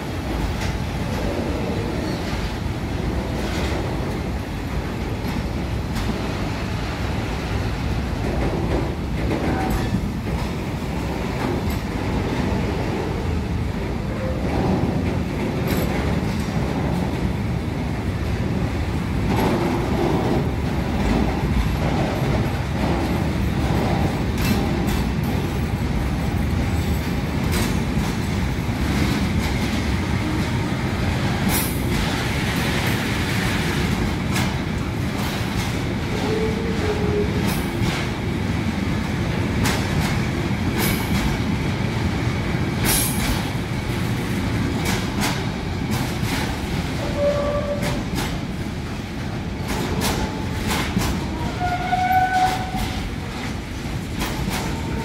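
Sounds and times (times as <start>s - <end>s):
freight wagons rumbling: 0.0s - 55.0s
wheels clacking over rail joints: 0.1s - 55.0s.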